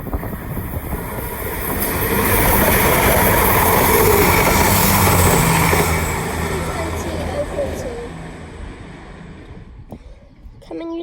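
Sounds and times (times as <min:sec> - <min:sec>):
train passing at speed: 0:00.0 - 0:10.0
low engine hum: 0:00.0 - 0:10.8.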